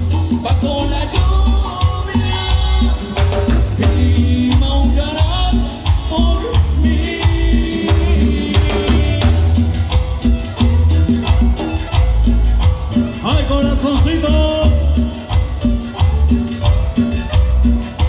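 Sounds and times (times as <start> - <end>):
heavy pulsing bass: 0.0 - 18.0
shaken percussion beat: 0.0 - 18.0.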